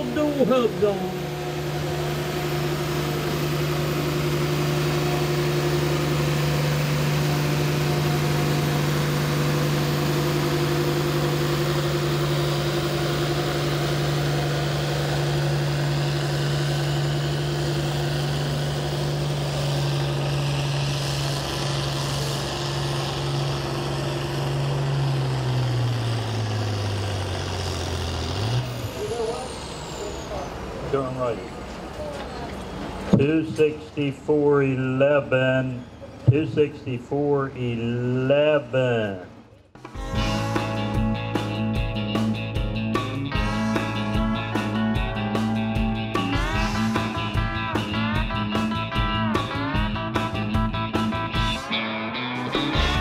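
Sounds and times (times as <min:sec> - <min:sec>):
diesel tractor engine under full load: 0:00.0 - 0:53.0.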